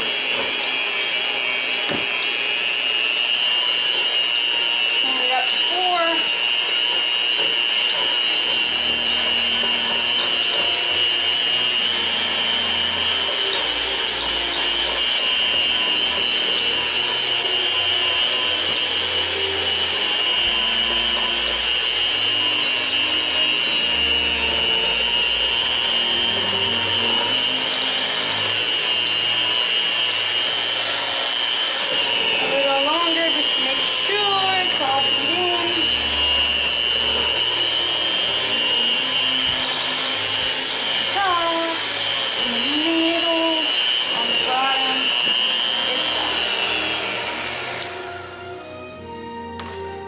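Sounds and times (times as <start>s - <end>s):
electric hand mixer whisking batter: 0.0s - 50.0s.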